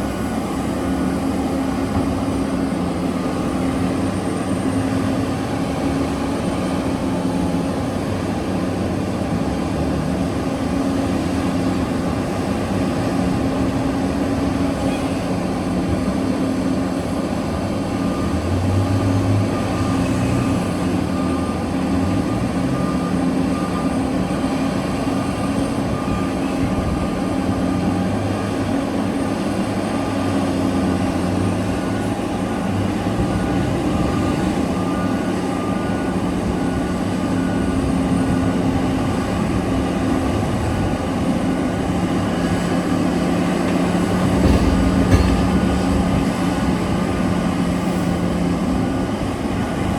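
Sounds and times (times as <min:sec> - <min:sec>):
heavy diesel engines droning: 0:00.0 - 0:49.9.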